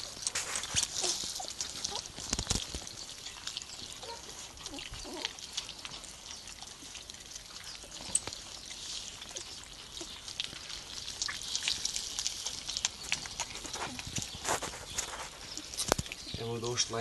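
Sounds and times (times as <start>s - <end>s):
puppies chewing and smacking: 0.0s - 17.0s.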